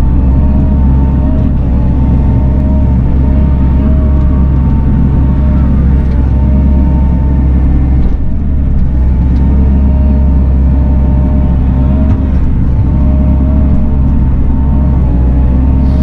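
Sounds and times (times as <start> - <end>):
excavator diesel engine drone: 0.0 - 16.0
steady whine: 0.0 - 16.0.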